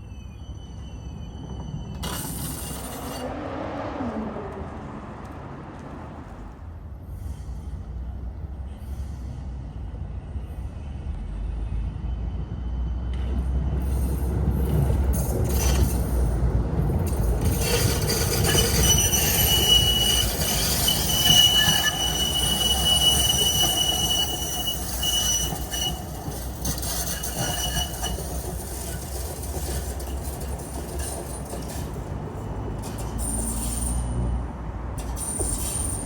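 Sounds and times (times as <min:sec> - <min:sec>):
tram rumbling on rails: 0:00.0 - 0:36.0
tram wheels squealing: 0:00.0 - 0:36.0.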